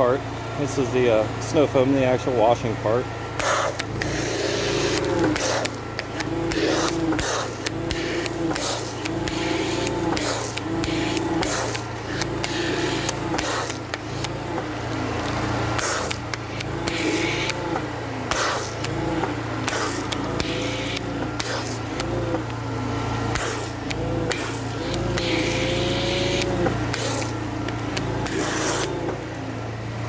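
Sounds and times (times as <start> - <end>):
pressure washer humming: 0.0 - 30.0
foam cannon hissing bursts: 3.3 - 29.2.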